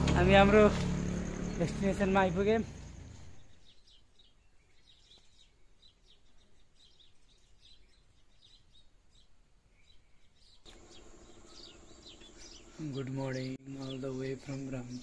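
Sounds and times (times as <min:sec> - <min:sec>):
faint birds chirping: 0:00.1 - 0:15.0.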